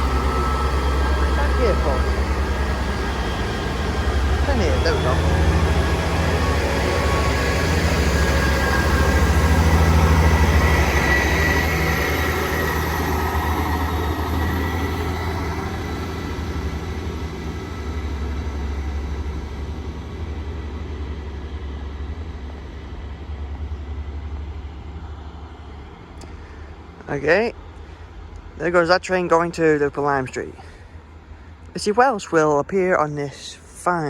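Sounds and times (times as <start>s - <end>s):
diesel train engines droning: 0.0s - 34.0s.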